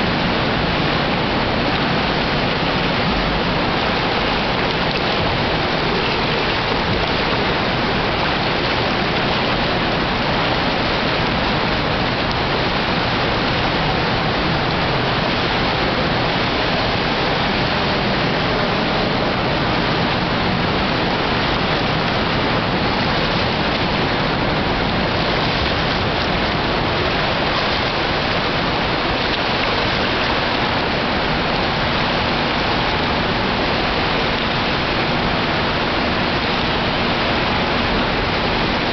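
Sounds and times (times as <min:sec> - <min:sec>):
steady rushing noise: 0:00.0 - 0:38.9.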